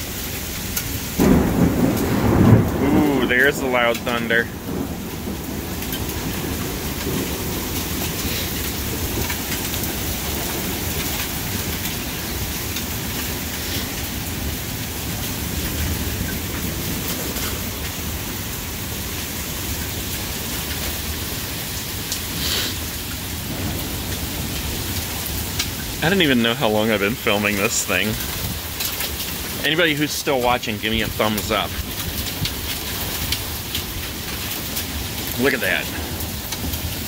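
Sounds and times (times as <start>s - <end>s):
heavy rain pouring: 0.0s - 37.0s
low thunder rumbling: 0.0s - 37.0s.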